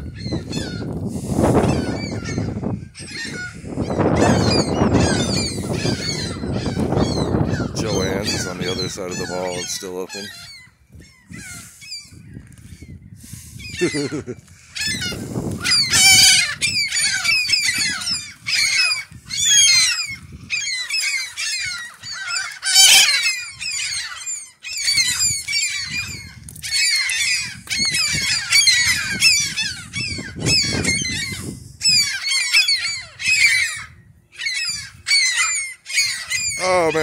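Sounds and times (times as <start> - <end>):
gulls calling: 0.0 - 37.0.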